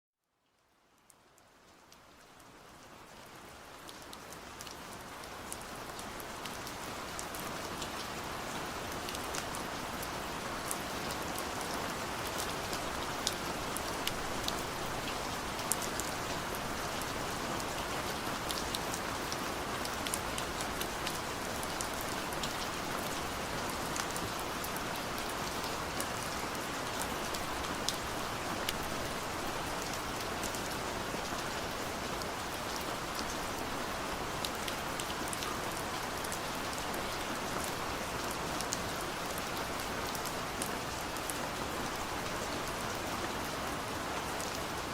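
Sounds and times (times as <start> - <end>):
rain drops pattering: 0.2 - 44.9.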